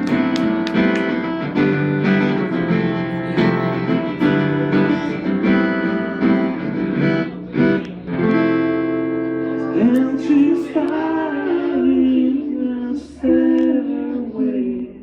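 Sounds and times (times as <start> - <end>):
guitar strumming chords: 0.0 - 13.8.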